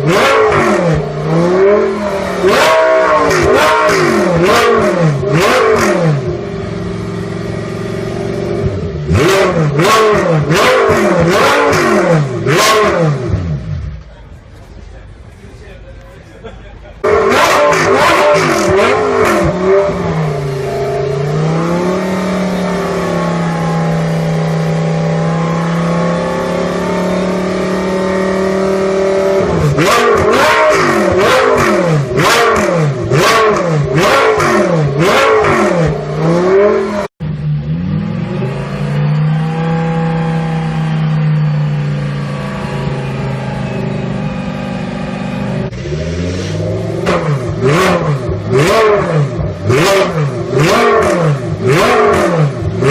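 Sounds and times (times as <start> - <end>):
racecar engine at high revs: 0.0 - 14.1, 16.9 - 52.9.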